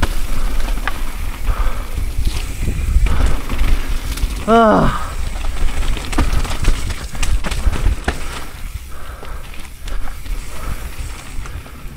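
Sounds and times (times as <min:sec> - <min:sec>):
bike rattling and knocking: 0:00.0 - 0:11.9
wind rumble on microphone: 0:00.0 - 0:11.9.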